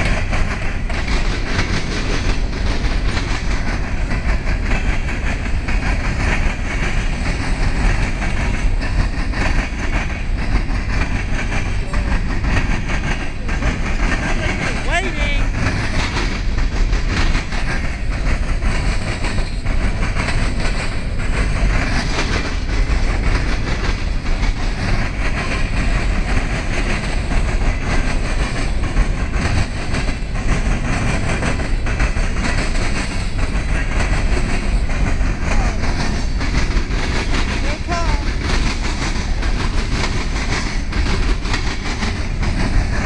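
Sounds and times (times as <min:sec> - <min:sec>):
train wheels rumbling and clacking: 0:00.0 - 0:43.0.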